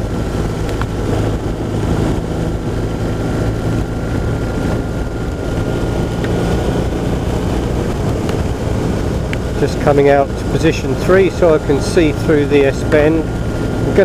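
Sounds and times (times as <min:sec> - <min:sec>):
motorcycle engine cruising: 0:00.0 - 0:14.0
road noise on wet road: 0:00.0 - 0:14.0
wind rushing: 0:00.0 - 0:14.0.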